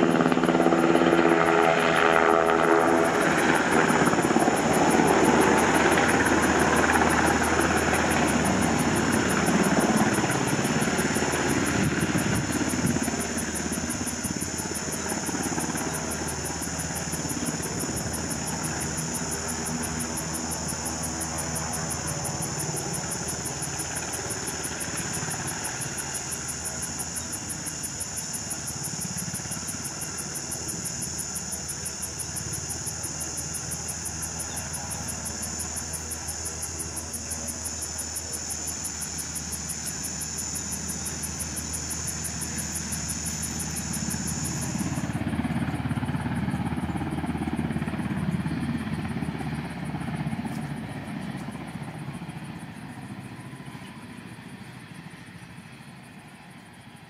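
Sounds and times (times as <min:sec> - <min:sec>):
helicopter rotor and engines: 0:00.0 - 0:57.0.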